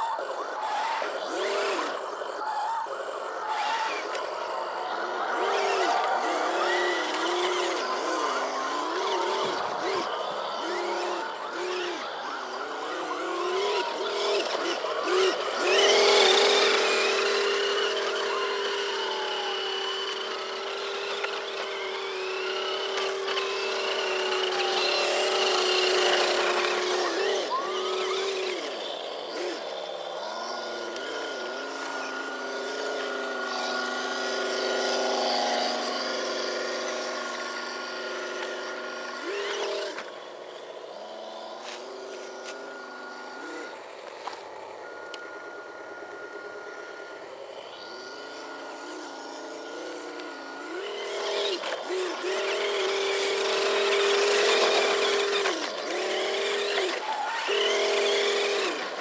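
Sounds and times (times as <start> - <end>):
simulated engine whine: 0.0 - 59.0.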